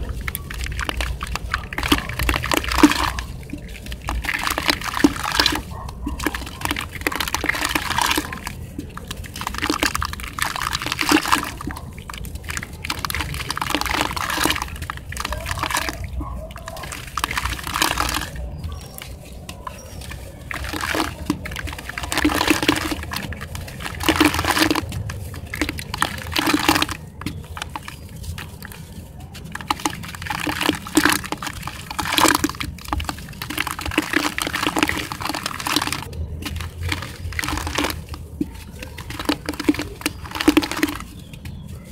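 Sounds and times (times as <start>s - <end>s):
gritty crumbling: 0.0s - 41.9s
water sloshing and splashing: 0.0s - 41.9s.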